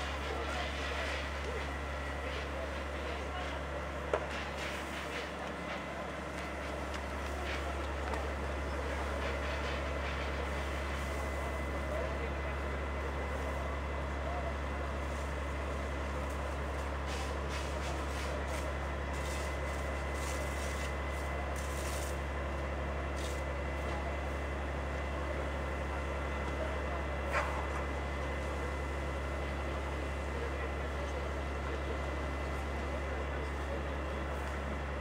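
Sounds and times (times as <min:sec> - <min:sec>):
crowd voices: 0:00.0 - 0:35.0
fire engine engine droning: 0:00.0 - 0:35.0.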